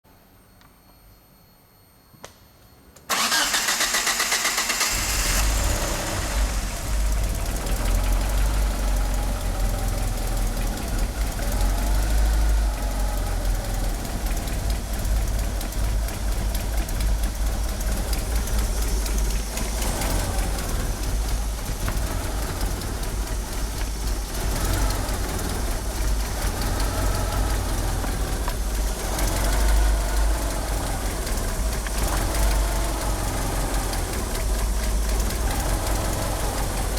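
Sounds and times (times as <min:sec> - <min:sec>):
engine rough idle: 0:03.1 - 0:36.9
starter cranking engine: 0:03.1 - 0:36.9.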